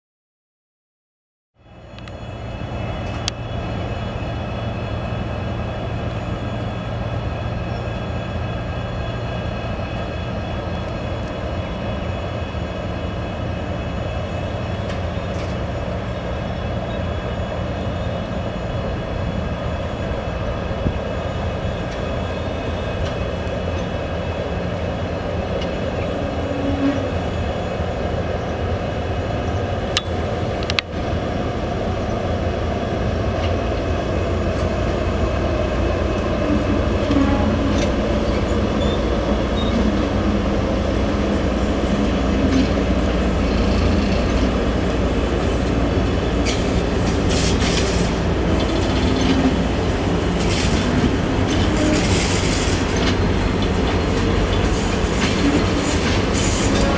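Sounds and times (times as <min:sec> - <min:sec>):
electric locomotive humming: 0:01.6 - 0:56.9.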